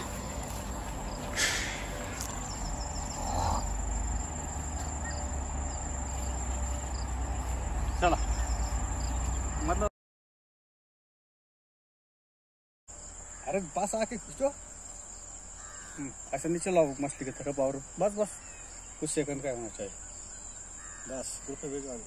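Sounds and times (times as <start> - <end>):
insects trilling: 0.0 - 9.9, 12.9 - 22.0.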